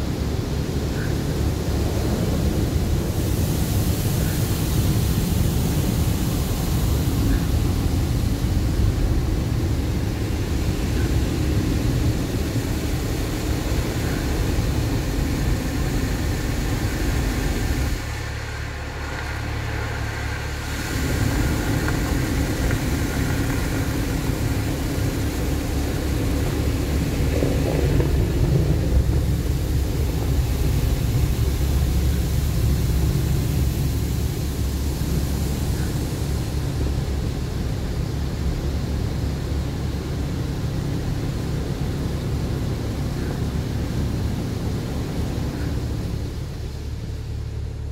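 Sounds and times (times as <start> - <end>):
automatic car wash running: 0.0 - 47.9.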